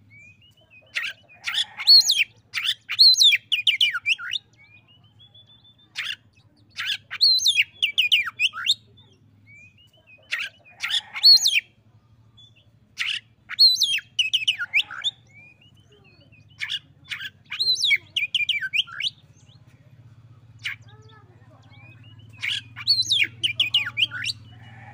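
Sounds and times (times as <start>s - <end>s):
bird singing whistles and trills: 0.1s - 11.6s, 12.4s - 19.6s, 21.7s - 24.6s.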